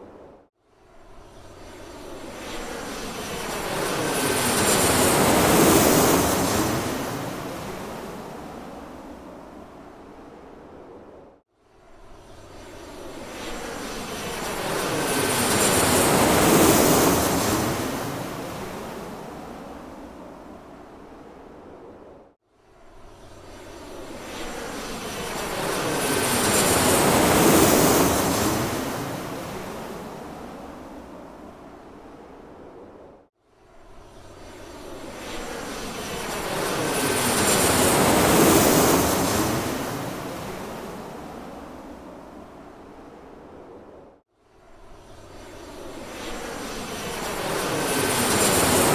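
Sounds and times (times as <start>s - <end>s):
airplane passing overhead: 0.0s - 48.9s.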